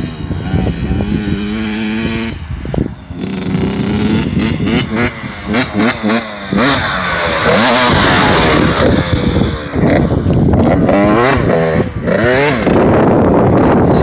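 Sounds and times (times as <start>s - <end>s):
dirt bike engine revving: 0.0s - 14.0s
steady rushing noise: 0.0s - 14.0s.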